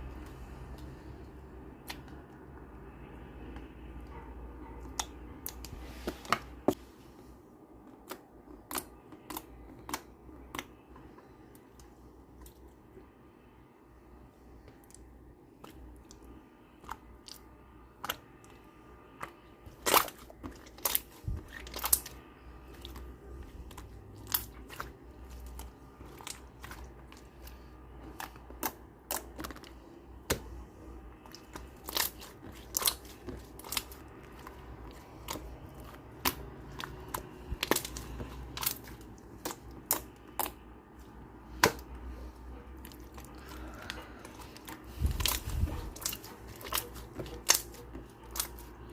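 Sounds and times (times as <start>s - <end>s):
slime squishing: 0.0s - 48.9s.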